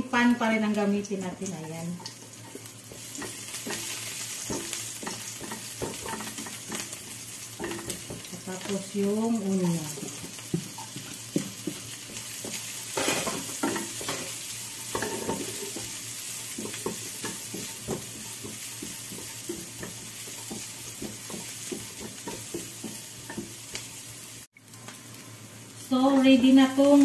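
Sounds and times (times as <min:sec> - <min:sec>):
onion and garlic sizzling: 0:00.0 - 0:27.0
tongs scraping and tapping pan: 0:01.5 - 0:23.9.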